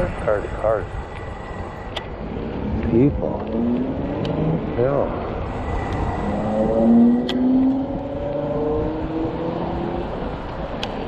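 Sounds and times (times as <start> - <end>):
wind and road noise rumble: 0.0 - 11.0
vehicle engines accelerating: 1.4 - 11.0.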